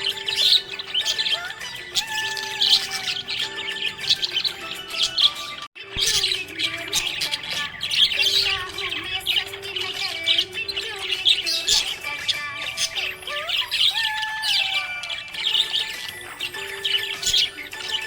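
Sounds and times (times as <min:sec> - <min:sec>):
budgerigars chirping and warbling: 0:00.0 - 0:18.0.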